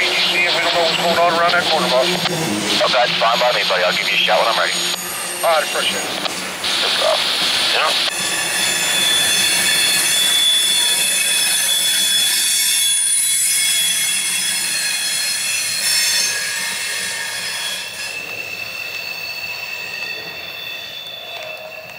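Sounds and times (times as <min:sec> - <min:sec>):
steel wheels hissing on rail: 0:00.0 - 0:21.9
train wheels squealing: 0:02.9 - 0:07.2, 0:07.8 - 0:21.9.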